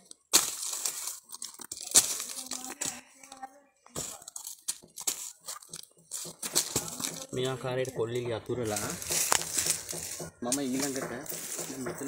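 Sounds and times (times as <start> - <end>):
dry coconut husks crunching: 0.0 - 12.0.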